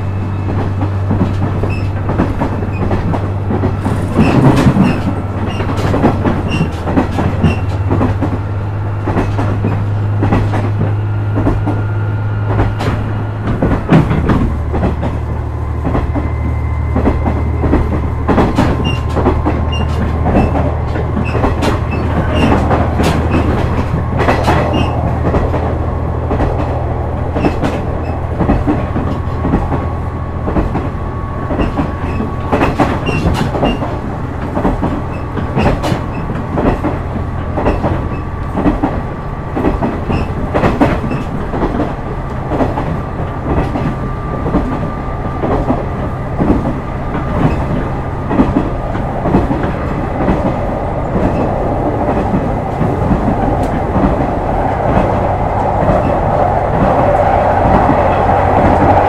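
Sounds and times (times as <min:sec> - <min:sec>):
wheels clicking over rail joints: 0:00.5 - 0:08.4, 0:17.0 - 0:59.0.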